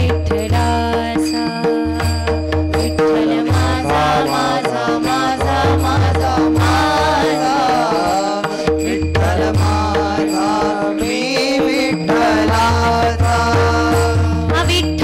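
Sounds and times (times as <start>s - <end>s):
person singing: 0.0s - 15.0s
steady held drone: 1.7s - 15.0s.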